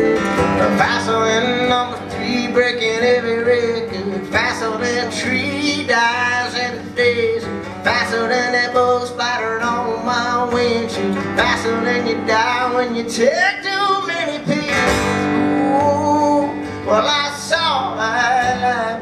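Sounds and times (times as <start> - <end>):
acoustic guitar strummed: 0.0 - 19.0
man singing: 0.0 - 19.0.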